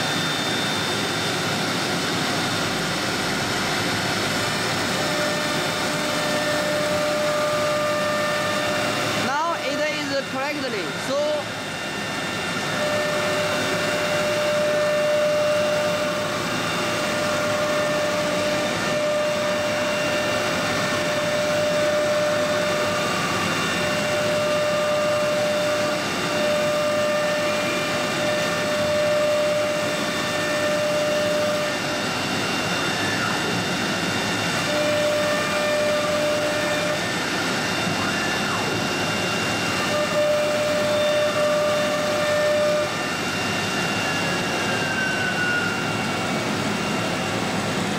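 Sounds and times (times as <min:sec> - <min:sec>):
cnc router whine: 0:00.0 - 0:47.9.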